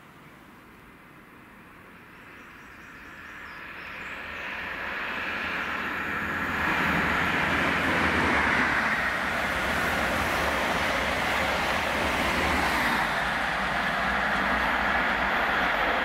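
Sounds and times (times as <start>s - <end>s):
train wheels rushing on rail: 1.2s - 16.0s.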